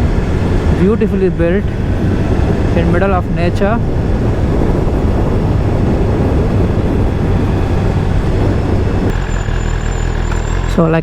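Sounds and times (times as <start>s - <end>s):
wind noise on microphone: 0.0s - 9.2s
motorcycle engine running: 0.0s - 11.0s.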